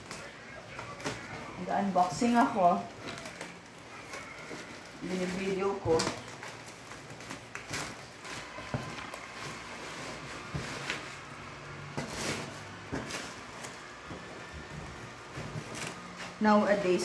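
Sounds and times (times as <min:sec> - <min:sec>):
plastic and cardboard rustling: 0:00.0 - 0:17.0.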